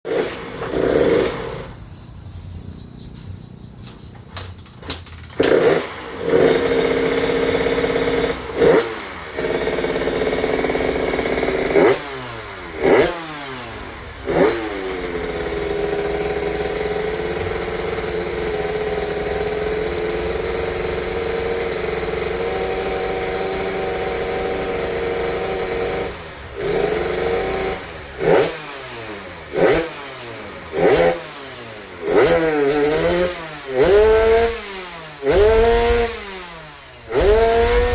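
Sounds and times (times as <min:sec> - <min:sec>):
motorcycle engine revving and idling: 0:00.1 - 0:37.9.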